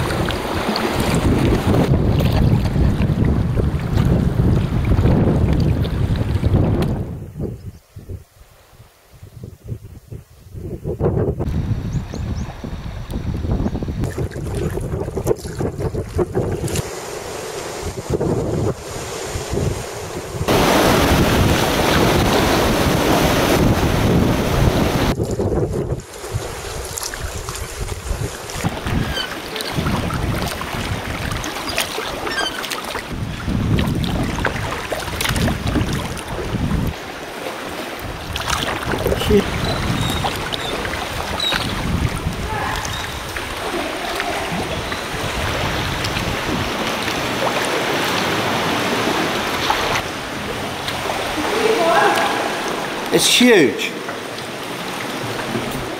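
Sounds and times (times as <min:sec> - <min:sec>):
water sloshing around kayak: 0:00.0 - 0:07.0, 0:13.8 - 0:53.2, 0:54.0 - 0:55.9
sea waves washing: 0:00.0 - 0:07.3, 0:11.4 - 0:55.9
wind buffeting microphone: 0:00.0 - 0:53.1.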